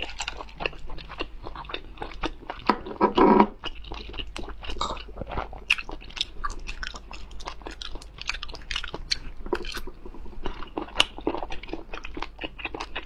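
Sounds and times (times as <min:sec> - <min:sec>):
mouth chewing with sharp clicks: 0:00.0 - 0:02.9, 0:03.6 - 0:13.0.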